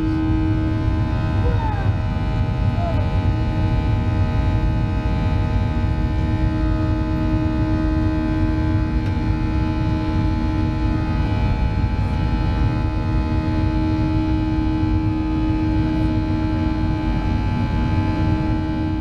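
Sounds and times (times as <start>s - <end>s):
jet engine whining tones: 0.0s - 18.7s
deep jet engine rumble: 0.0s - 19.0s.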